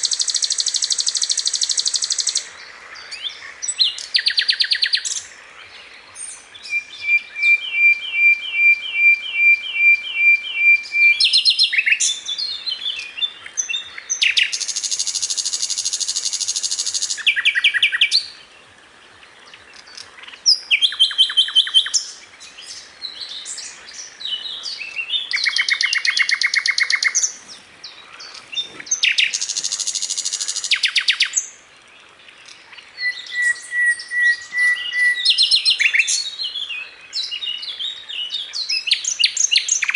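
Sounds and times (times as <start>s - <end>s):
bird song with chirps and trills: 0.0s - 39.9s.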